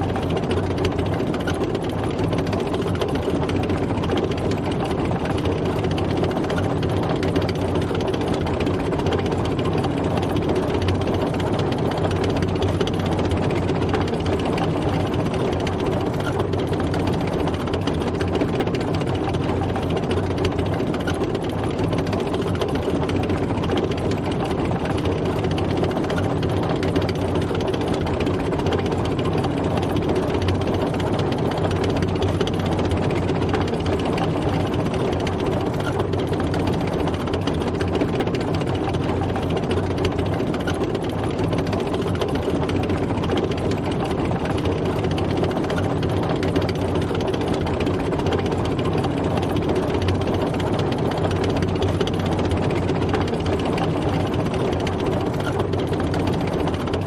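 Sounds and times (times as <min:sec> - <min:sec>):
heavy tank engine: 0:00.0 - 0:57.0
tracks clattering and rattling: 0:00.0 - 0:57.0.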